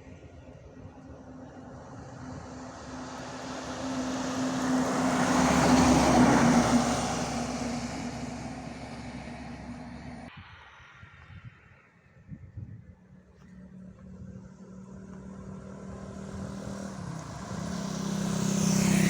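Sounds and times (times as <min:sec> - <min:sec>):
truck driving past: 0:00.2 - 0:11.0, 0:13.0 - 0:19.0.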